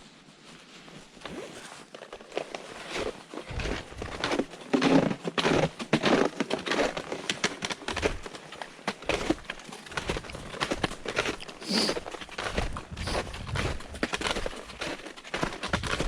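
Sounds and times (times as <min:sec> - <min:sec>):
footsteps crunching on trail: 0:00.5 - 0:16.0.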